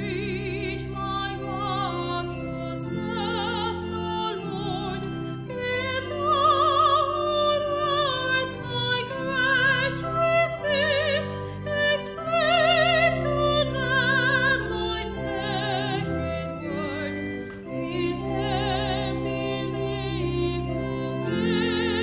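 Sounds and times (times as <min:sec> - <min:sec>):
sustained organ chords: 0:00.0 - 0:22.0
woman singing with vibrato: 0:00.0 - 0:22.0.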